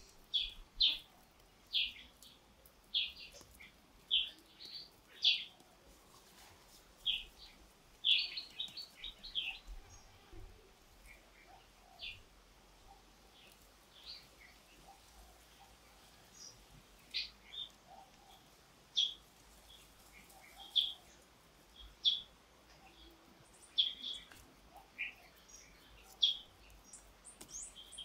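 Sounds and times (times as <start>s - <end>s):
bird chirping: 0.0s - 5.7s, 6.4s - 28.0s.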